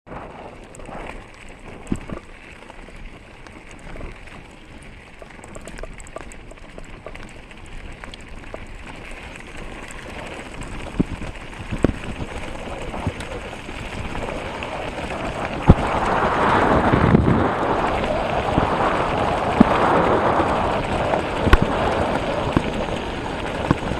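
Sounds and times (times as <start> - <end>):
bike clicks and rattles: 0.1 - 23.9
bike tyres on dirt: 0.1 - 23.9.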